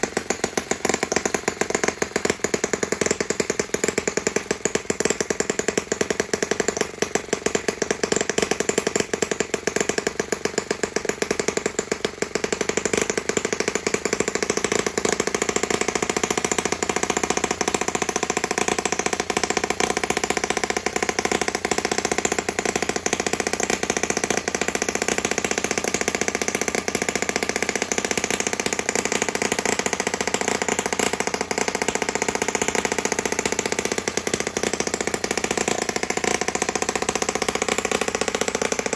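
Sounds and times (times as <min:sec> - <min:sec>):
model engine running: 0:00.0 - 0:38.9.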